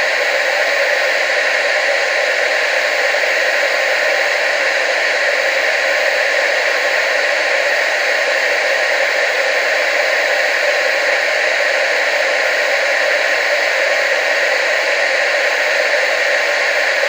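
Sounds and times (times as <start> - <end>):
tv static hiss: 0.0 - 17.0.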